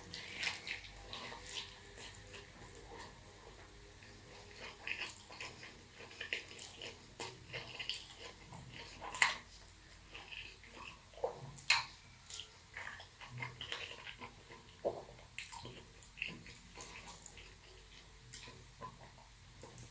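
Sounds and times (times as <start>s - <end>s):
wet chewing and lip-smacking: 0.0s - 19.9s.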